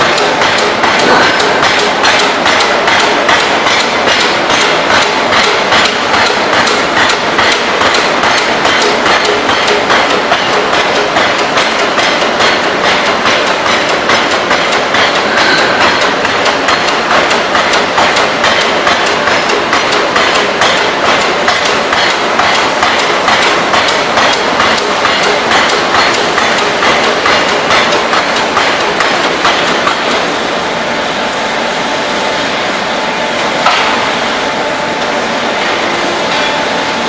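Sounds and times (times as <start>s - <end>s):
loud machinery din: 0.0s - 30.3s
forging hammer striking metal: 0.0s - 30.4s, 33.6s - 34.4s, 35.6s - 37.0s.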